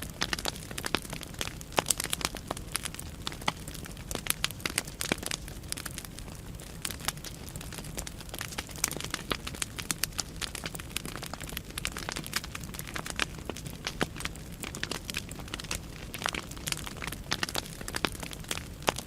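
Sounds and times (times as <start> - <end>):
logs crackling in fireplace: 0.0 - 19.0.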